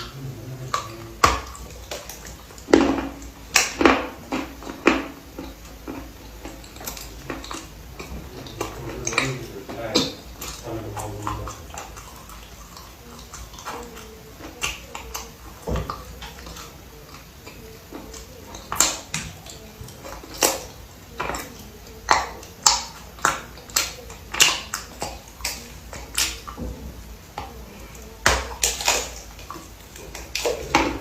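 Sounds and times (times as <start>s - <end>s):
chewing: 0.0s - 31.0s.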